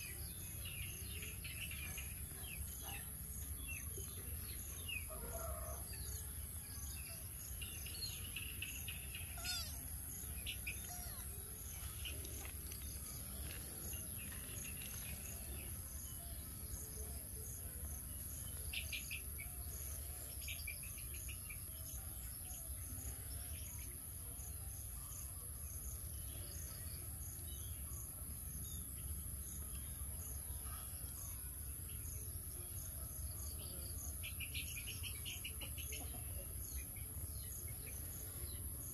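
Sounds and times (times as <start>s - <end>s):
bird calls and trills: 0.0s - 38.9s.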